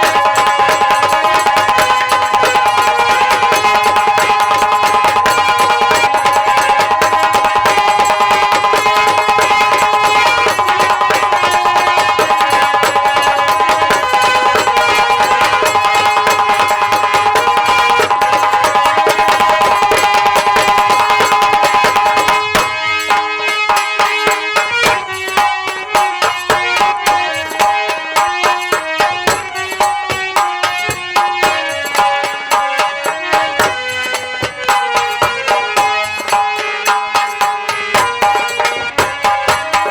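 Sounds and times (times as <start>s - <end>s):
hand drums: 0.0s - 39.9s
sustained melody instruments: 0.0s - 39.9s.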